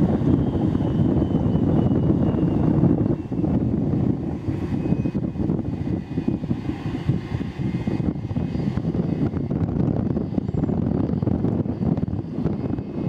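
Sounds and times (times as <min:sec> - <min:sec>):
aircraft engines rumbling: 0:00.0 - 0:13.0
wind buffeting microphone: 0:00.0 - 0:13.0.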